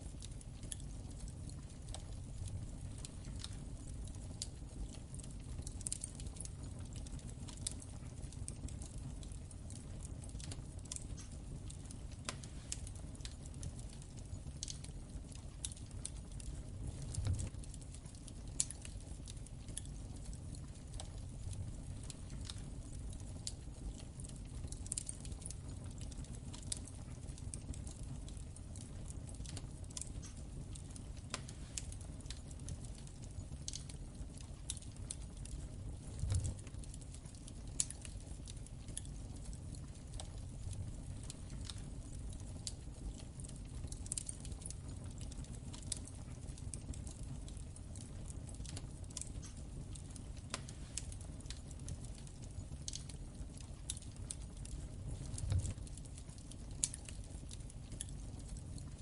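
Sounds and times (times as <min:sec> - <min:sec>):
low rumble of flames: 0:00.0 - 0:59.0
wood fire pops and snaps: 0:00.0 - 0:59.0.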